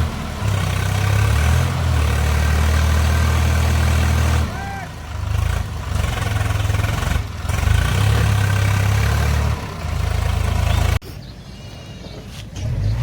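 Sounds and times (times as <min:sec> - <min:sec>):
heavy vehicle engine pulsing: 0:00.0 - 0:11.0.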